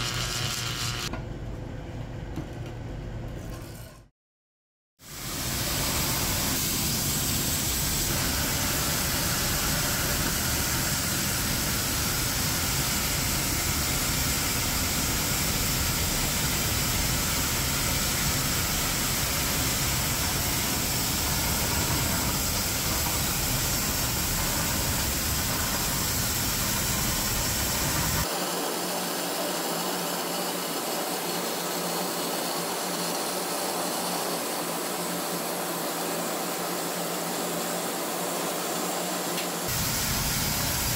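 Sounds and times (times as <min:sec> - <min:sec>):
cutting torch hissing: 0:05.0 - 0:40.9.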